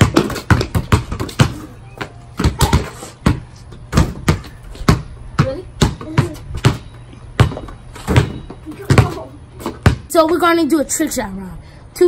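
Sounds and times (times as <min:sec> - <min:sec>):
basketballs dribbled on concrete: 0:00.0 - 0:10.5.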